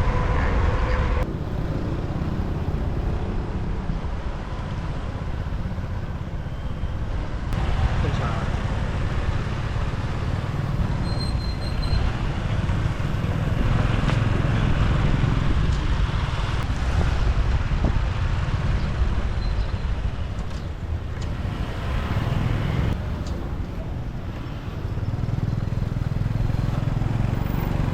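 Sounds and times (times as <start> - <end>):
city traffic noise: 0.0 - 27.9.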